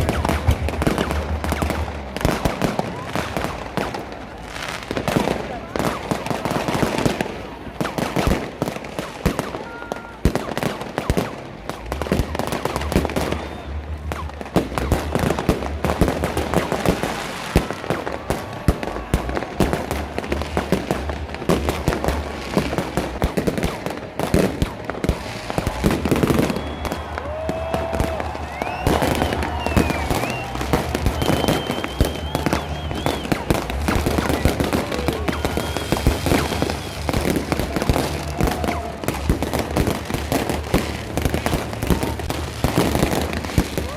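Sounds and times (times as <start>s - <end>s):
fireworks bangs and crackles: 0.0s - 43.9s
fireworks whistling: 0.0s - 43.9s.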